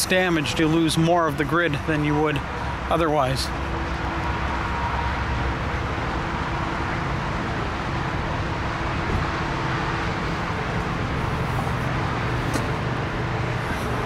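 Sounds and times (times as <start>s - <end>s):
traffic rumble and hiss: 0.0s - 14.0s.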